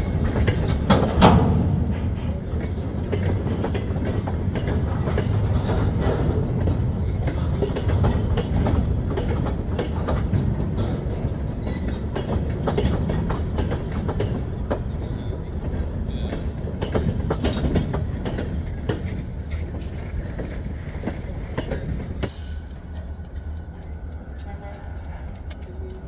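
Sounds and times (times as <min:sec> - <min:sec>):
train low rumble: 0:00.0 - 0:26.0
wheels clicking over rail joints: 0:00.0 - 0:26.0.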